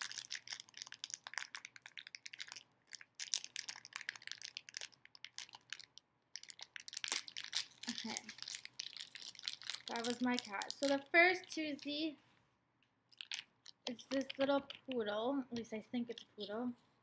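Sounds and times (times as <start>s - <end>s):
plastic wrapper crinkling and tearing: 0.0s - 11.9s, 13.1s - 15.0s.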